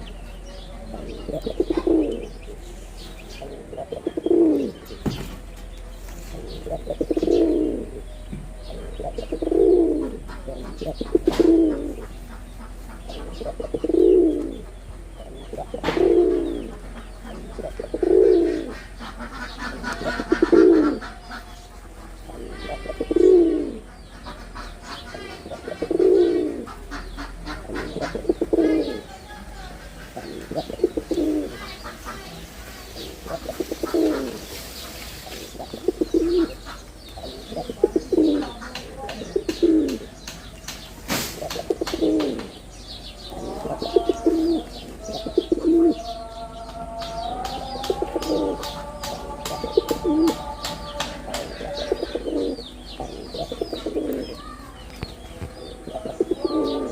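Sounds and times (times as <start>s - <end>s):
pigeon cooing: 0.0s - 5.2s, 6.2s - 32.3s, 32.9s - 40.5s, 41.4s - 56.9s
high chirping calls: 0.0s - 56.9s.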